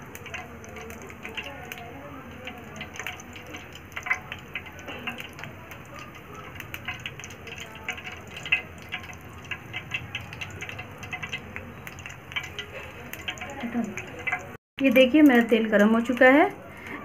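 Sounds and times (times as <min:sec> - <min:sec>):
oil popping: 0:00.0 - 0:16.4
oil sizzling and crackling: 0:00.0 - 0:17.0.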